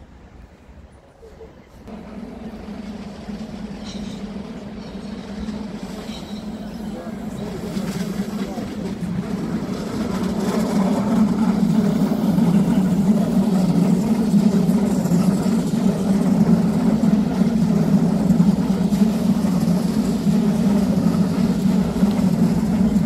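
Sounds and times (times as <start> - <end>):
electric train passing: 1.8 - 23.0.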